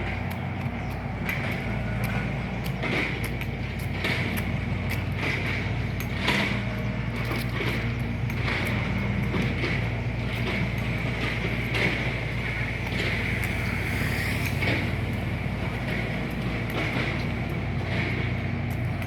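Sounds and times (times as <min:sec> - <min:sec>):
engine hum: 0:00.0 - 0:19.0
light footsteps: 0:00.0 - 0:19.0.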